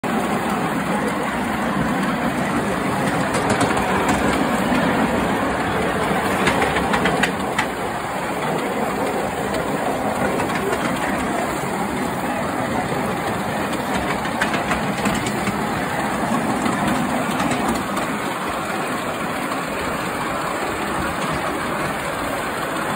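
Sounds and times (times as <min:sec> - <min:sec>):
steam locomotive rushing: 0:00.0 - 0:22.9.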